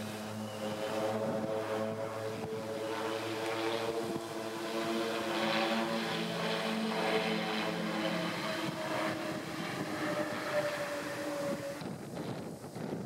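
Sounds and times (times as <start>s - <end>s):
propeller planes humming overhead: 0.0s - 13.0s.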